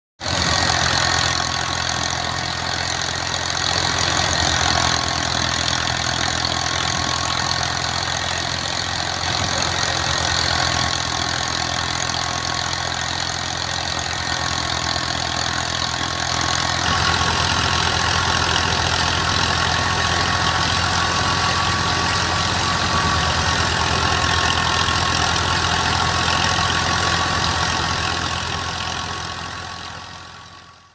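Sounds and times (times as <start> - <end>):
tractor diesel engine running: 0.2 - 30.9.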